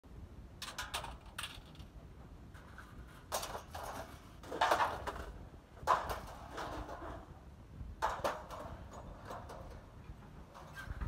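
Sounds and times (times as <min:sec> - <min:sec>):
scrap metal clattering on ground: 0:00.6 - 0:01.9, 0:02.5 - 0:07.4, 0:08.0 - 0:11.0.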